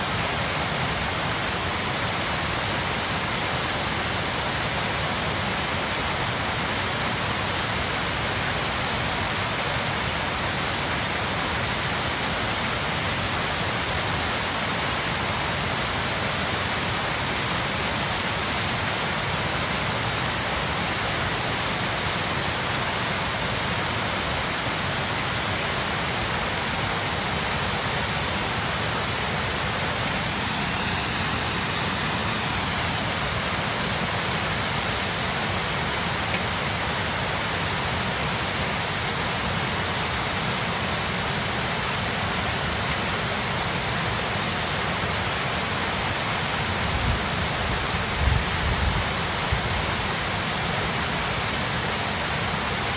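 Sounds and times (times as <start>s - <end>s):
water rushing down spillway: 0.0s - 52.9s.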